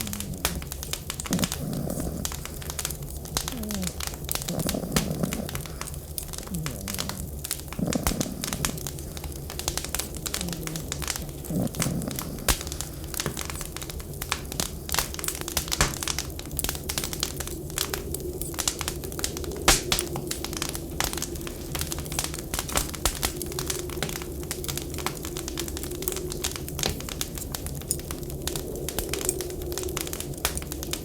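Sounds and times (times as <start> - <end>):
low background hum: 0.0 - 31.0
wood fire crackling: 0.0 - 31.0.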